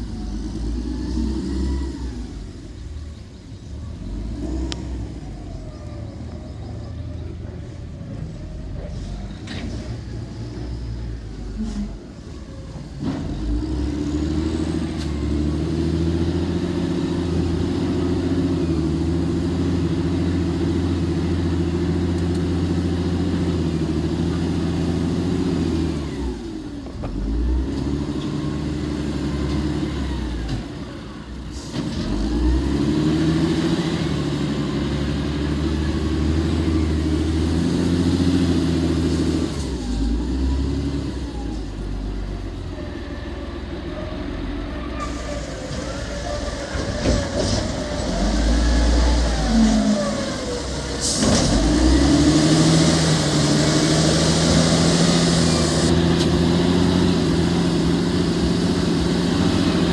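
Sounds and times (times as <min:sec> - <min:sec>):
engine running under load: 0:00.0 - 0:59.9.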